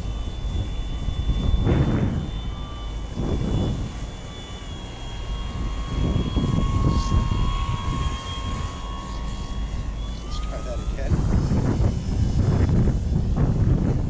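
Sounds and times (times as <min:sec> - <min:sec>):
electric motor and propeller whining: 0:00.0 - 0:14.0
wind gusting on microphone: 0:00.0 - 0:14.0.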